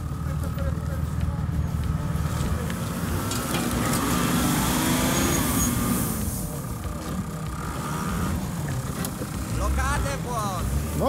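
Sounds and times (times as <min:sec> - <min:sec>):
suv engine running: 0:00.0 - 0:11.0.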